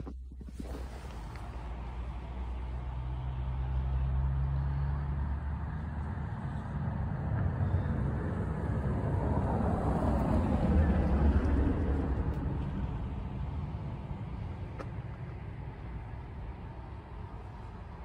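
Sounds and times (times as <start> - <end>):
car driving on snow: 0.0 - 18.0
steady low rumble: 0.0 - 18.0.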